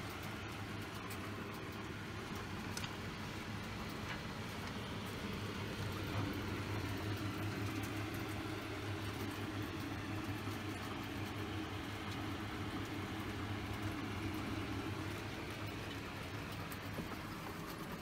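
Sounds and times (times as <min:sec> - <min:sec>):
air conditioner humming: 0:00.0 - 0:18.0.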